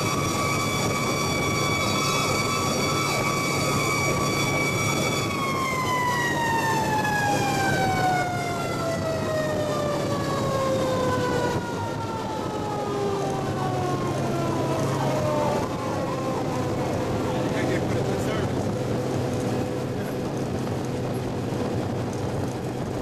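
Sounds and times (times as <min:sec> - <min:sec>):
fire truck mechanical siren: 0:00.0 - 0:23.0.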